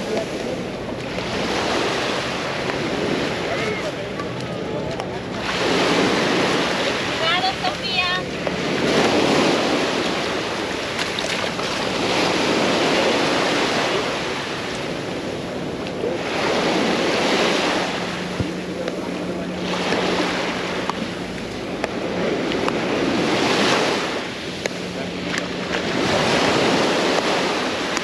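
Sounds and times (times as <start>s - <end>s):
small waves breaking on beach: 0.0s - 28.0s.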